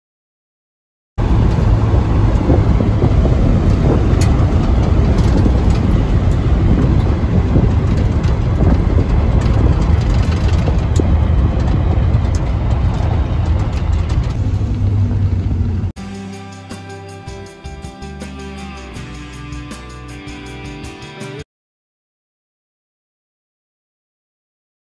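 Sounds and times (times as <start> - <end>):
engine and road rumble: 1.2 - 21.4.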